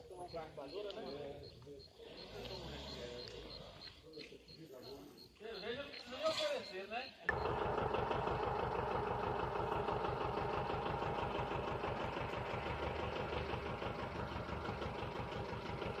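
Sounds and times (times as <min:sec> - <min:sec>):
tractor engine idling: 0:00.0 - 0:06.3, 0:07.1 - 0:16.0.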